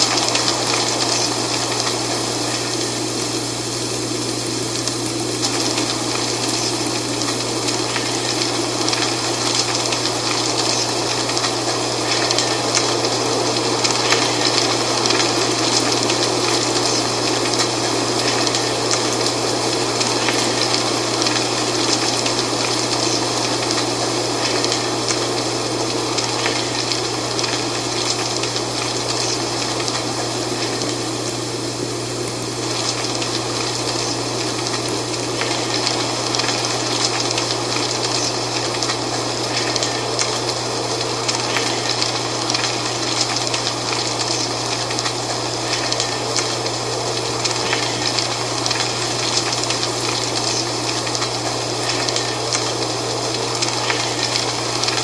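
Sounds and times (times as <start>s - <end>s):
dry leaves rustling in wind: 0.0s - 55.0s.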